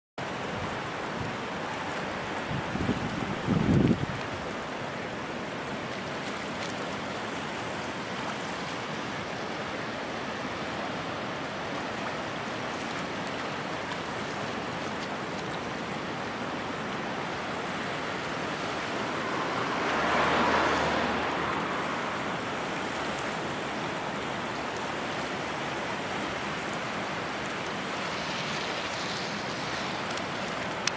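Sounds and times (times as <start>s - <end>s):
flooded river rushing: 0.2s - 30.9s.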